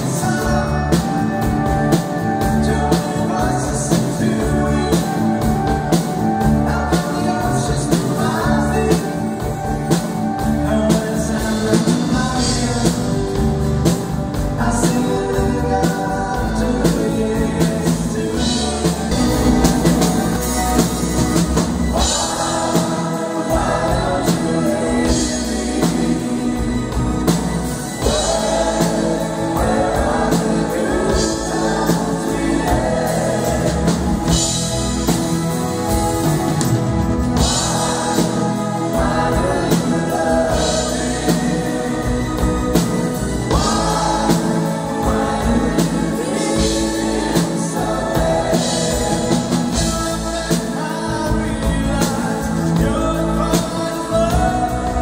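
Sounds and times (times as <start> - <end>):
acoustic guitars: 0.0 - 55.0
drums: 0.0 - 55.0
voices singing together: 0.0 - 55.0.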